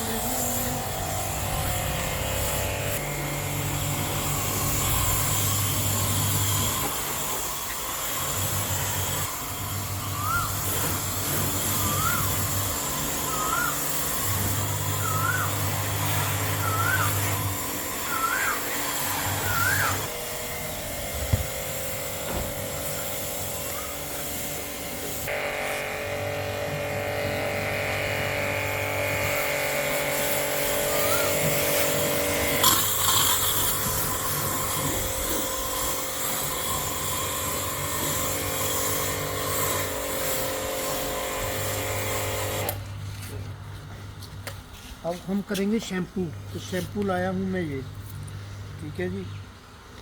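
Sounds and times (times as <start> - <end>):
pressure washer spraying water: 0.0 - 42.9.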